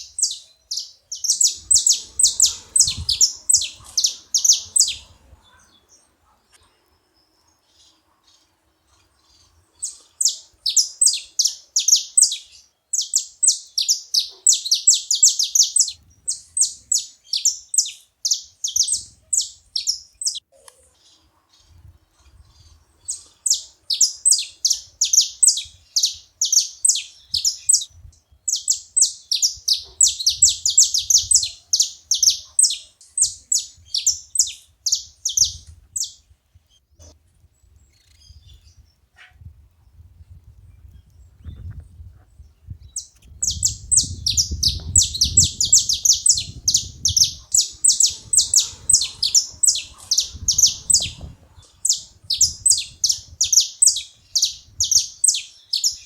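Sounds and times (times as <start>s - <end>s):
finches singing: 0.0s - 20.4s, 21.0s - 36.2s, 42.8s - 56.0s.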